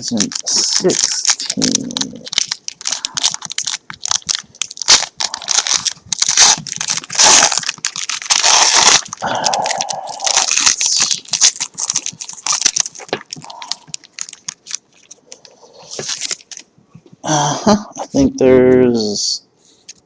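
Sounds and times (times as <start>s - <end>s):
plastic wrapping tearing and crinkling: 0.0s - 16.7s.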